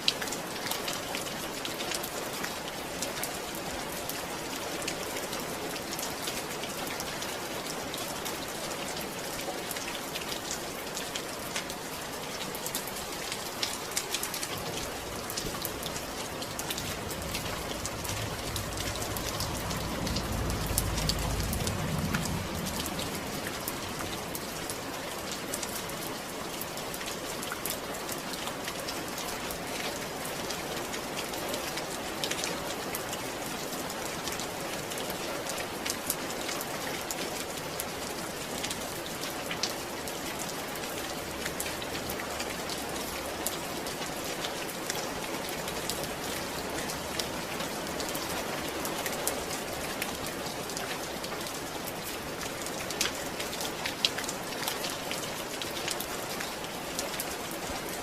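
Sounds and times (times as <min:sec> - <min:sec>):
rain falling: 0:00.0 - 0:58.0
raindrops pattering: 0:00.0 - 0:58.0.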